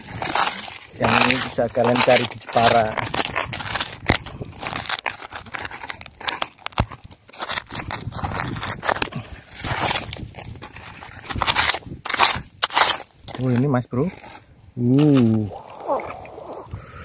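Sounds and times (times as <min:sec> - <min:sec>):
hand digging through sand and rubble: 0:00.0 - 0:15.5.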